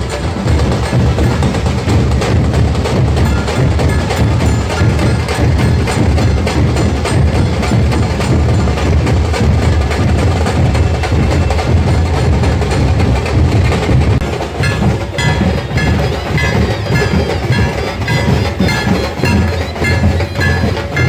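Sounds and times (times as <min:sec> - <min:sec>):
heavy low drum beat: 0:00.0 - 0:21.0
rapid sharp drum strokes: 0:00.0 - 0:21.0.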